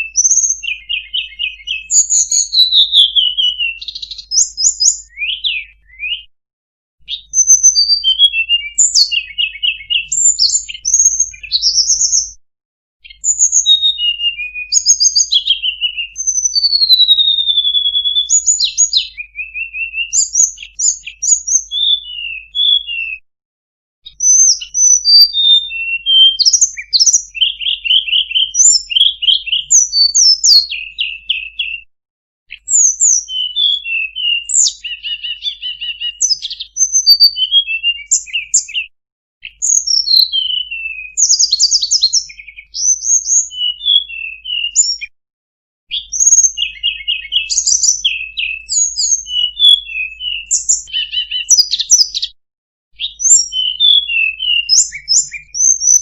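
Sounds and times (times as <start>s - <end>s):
bird singing whistled notes: 0.0s - 6.3s, 7.0s - 12.4s, 13.0s - 23.2s, 24.0s - 31.9s, 32.5s - 45.1s, 45.9s - 56.0s.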